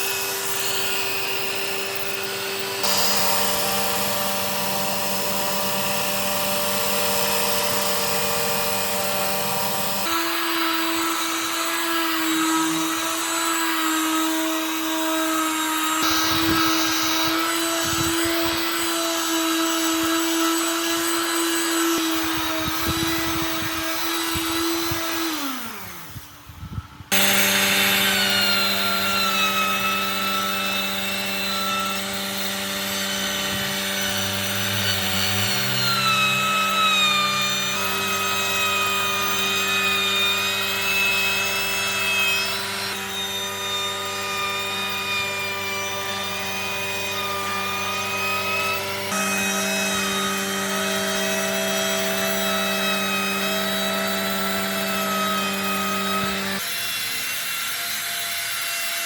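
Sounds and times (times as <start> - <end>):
motor winding down: 0.0 - 59.0
power tools running: 0.0 - 59.0.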